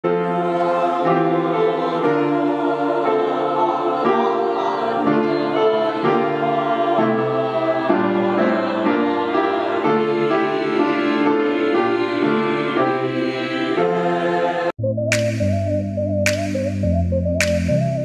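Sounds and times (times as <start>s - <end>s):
choir singing chords: 0.0s - 15.5s.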